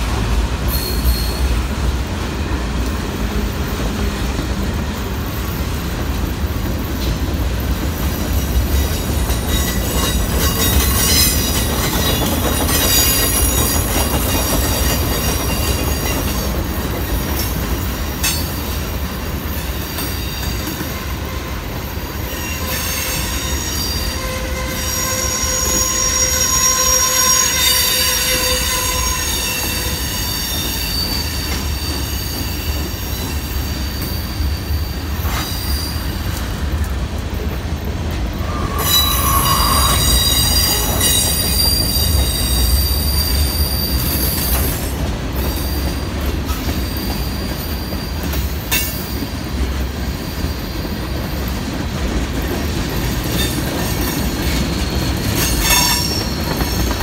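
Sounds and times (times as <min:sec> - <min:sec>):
freight train rumbling past: 0:00.0 - 0:57.0
train wheels squealing: 0:00.6 - 0:01.8, 0:08.0 - 0:36.5, 0:38.3 - 0:57.0.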